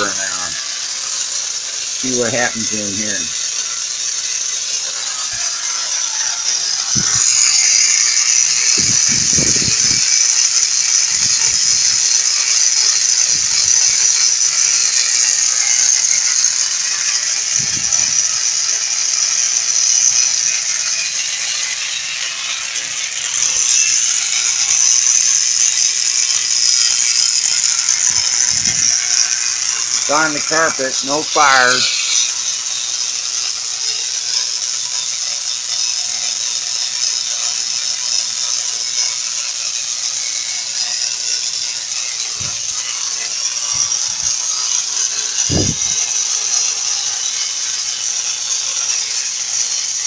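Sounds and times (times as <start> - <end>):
tesla coil crackling buzz: 0.0 - 50.0.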